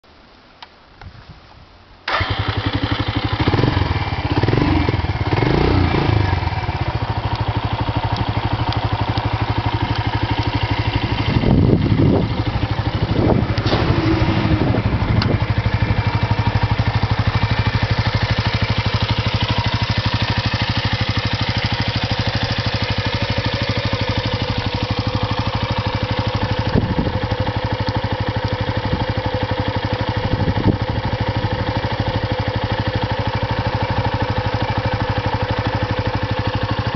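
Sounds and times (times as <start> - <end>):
motorcycle engine revving and idling: 2.1 - 36.9.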